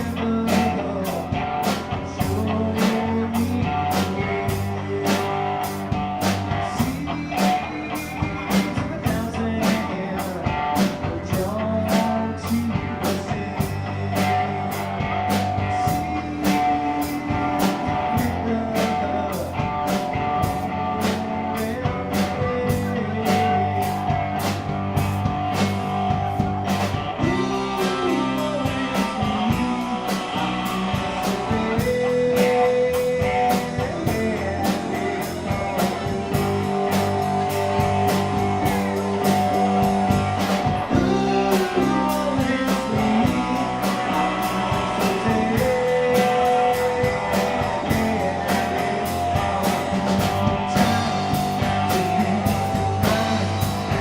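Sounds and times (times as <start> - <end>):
bass: 0.0 - 54.0
guitar lines: 0.0 - 54.0
steady drum beat: 0.0 - 54.0.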